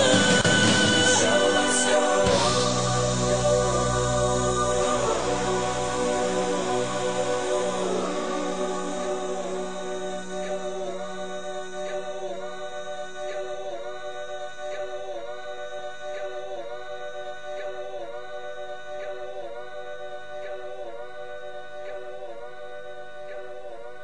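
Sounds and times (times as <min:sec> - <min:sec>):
choir-like voices holding chords: 0:00.0 - 0:24.0.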